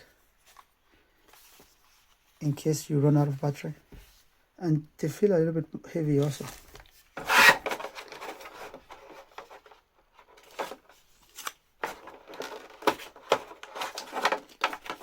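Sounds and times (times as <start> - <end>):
headphones and packaging handled: 0.0 - 4.4, 6.1 - 15.0.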